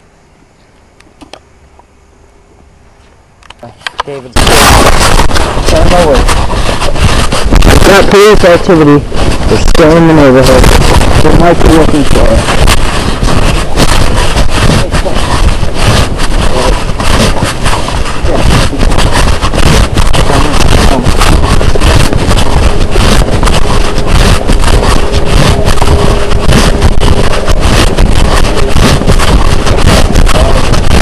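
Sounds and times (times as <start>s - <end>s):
faint steady hum: 0.0s - 31.0s
wind buffeting microphone: 4.3s - 31.0s.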